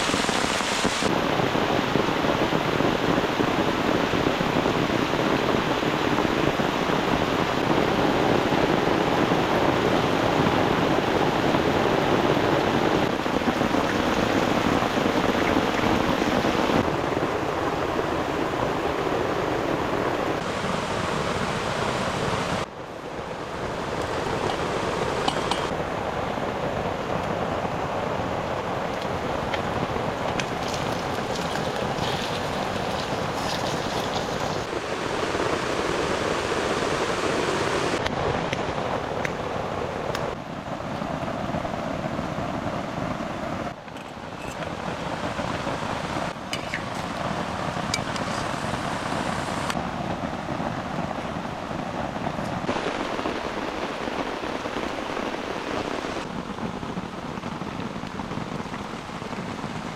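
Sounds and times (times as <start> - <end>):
heavy rain with wind: 0.0 - 59.9.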